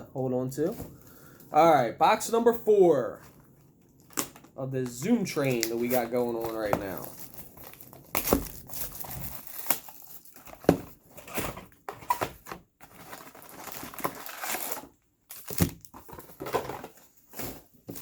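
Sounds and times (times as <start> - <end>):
plastic wrapping crinkling and tearing: 3.1 - 18.0.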